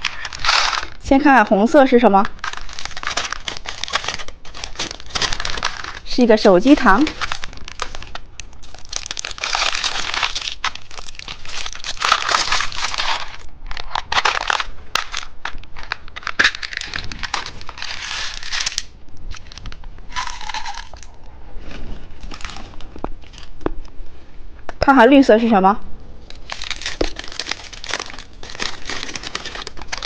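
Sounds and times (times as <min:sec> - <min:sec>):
plastic packaging crinkling: 0:00.0 - 0:23.8, 0:26.2 - 0:30.0.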